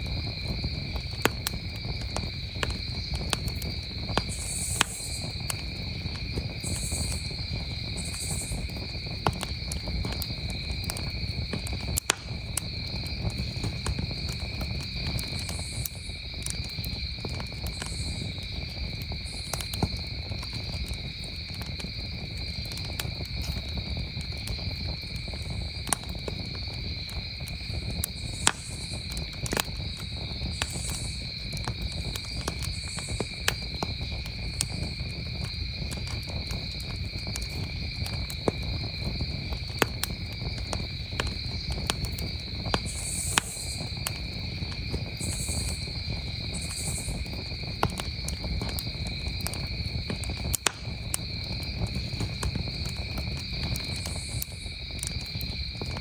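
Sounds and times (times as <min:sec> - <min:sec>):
campfire crackling: 0:00.0 - 0:56.0
crickets chirping: 0:00.0 - 0:56.0.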